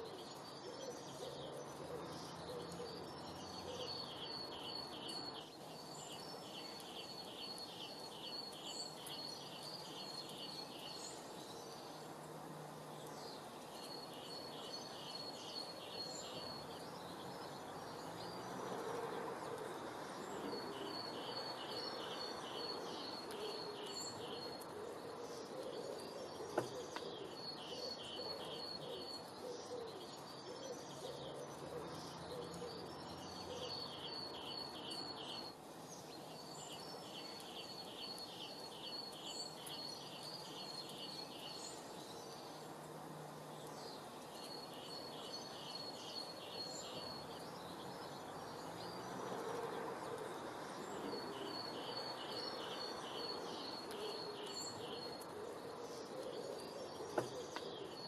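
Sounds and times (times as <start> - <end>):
outdoor background rush: 0.0 - 58.0.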